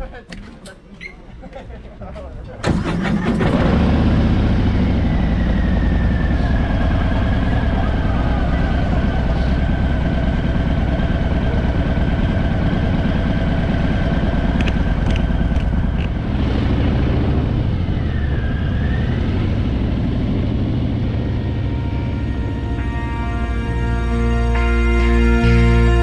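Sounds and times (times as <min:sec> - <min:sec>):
motorcycle engine running: 0:03.3 - 0:26.0.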